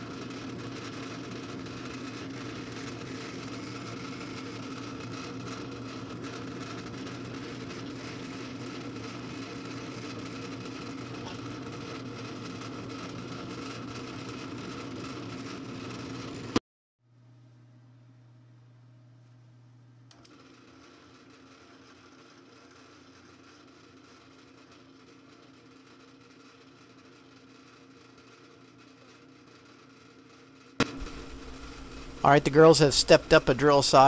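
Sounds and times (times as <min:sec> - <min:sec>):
drill press motor running: 0:00.0 - 0:16.6, 0:20.1 - 0:29.9, 0:30.8 - 0:34.0.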